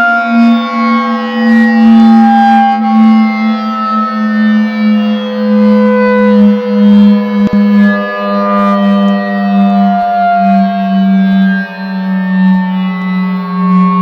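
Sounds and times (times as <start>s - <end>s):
siren at steady pitch: 0.0s - 14.0s.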